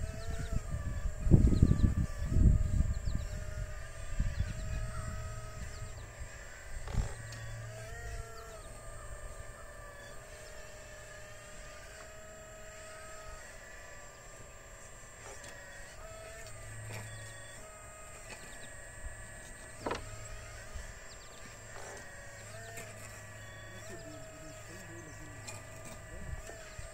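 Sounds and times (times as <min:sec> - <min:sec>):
electric motors whining: 0:00.0 - 0:26.9.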